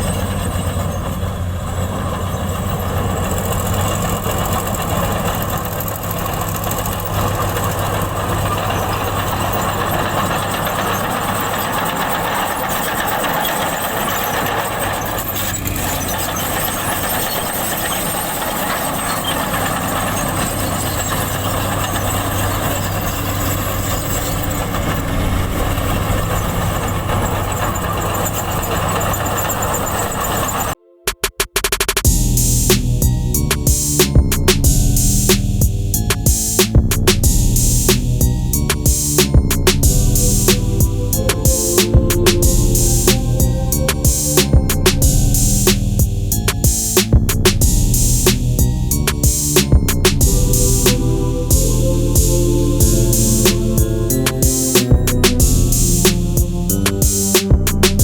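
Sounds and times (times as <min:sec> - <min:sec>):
bulldozer diesel engine running: 0:00.0 - 0:30.8, 0:32.1 - 0:58.0.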